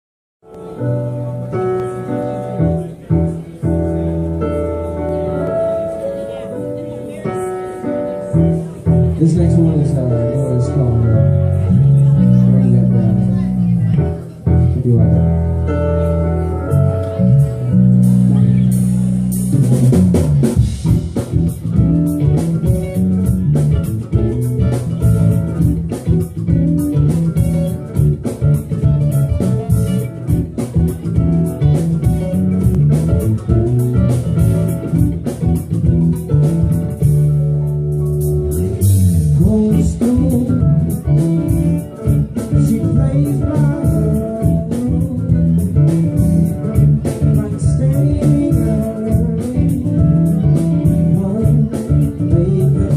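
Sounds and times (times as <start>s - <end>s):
live rock band instrumental: 0.4s - 52.9s
drum kit: 7.4s - 52.9s.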